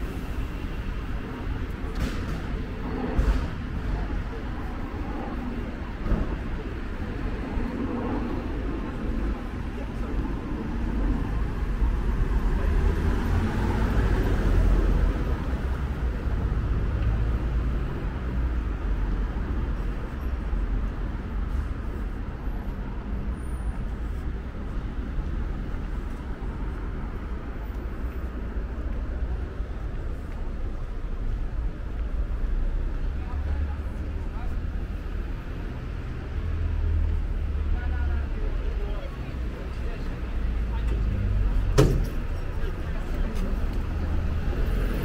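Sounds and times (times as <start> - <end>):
low traffic rumble: 0.0 - 45.0.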